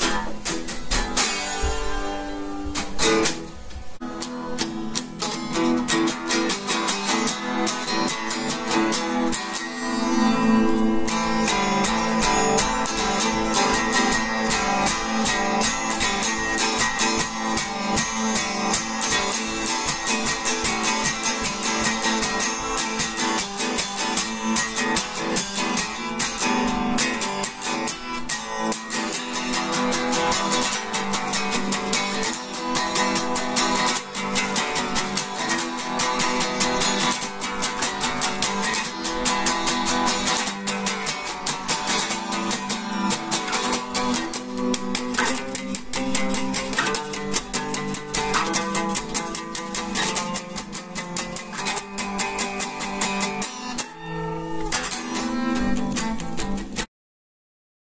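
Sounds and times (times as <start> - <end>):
guitar strummed fast: 0.0 - 56.9.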